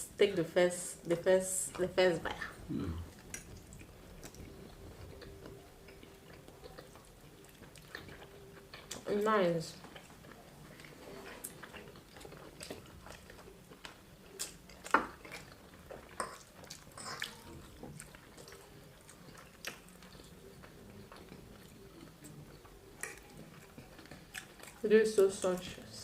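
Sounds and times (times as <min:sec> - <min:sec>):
person chewing food: 0:02.4 - 0:09.1, 0:09.8 - 0:24.8.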